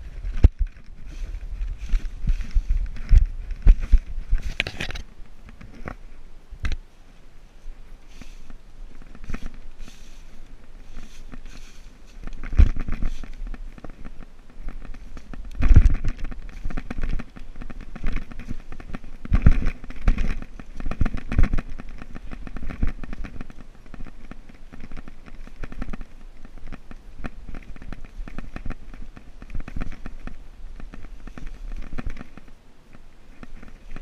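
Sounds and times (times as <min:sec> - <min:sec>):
scuffing and rubbing in tunnel: 0:00.0 - 0:06.2, 0:07.2 - 0:32.6.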